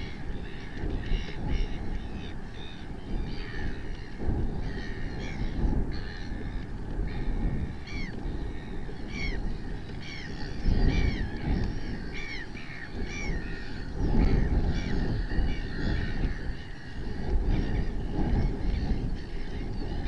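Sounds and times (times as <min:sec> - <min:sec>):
gulls calling: 0:00.0 - 0:20.0
wind rumble on microphone: 0:00.0 - 0:20.0.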